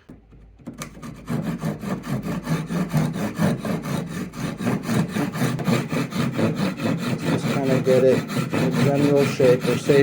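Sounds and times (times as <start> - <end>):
hand saw cutting wood: 0.7 - 10.0.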